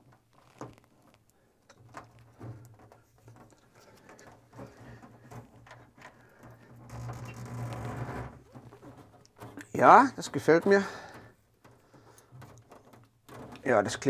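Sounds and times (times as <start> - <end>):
rustling: 0.0 - 14.0.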